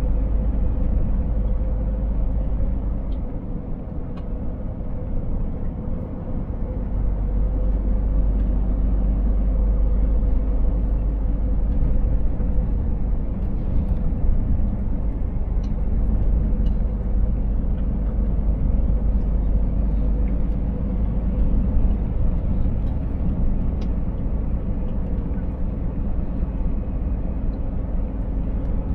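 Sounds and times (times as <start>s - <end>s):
truck diesel engine rumble: 0.0s - 28.9s.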